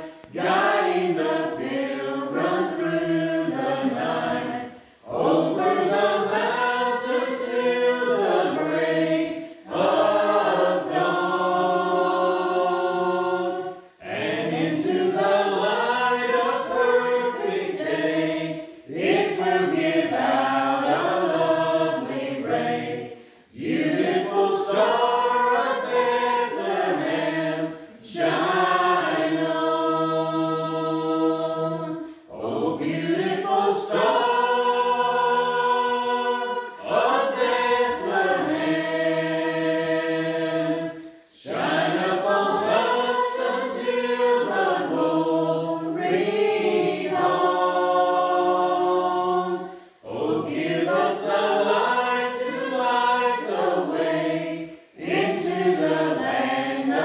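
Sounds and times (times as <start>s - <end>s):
choir singing a carol: 0.0s - 57.0s.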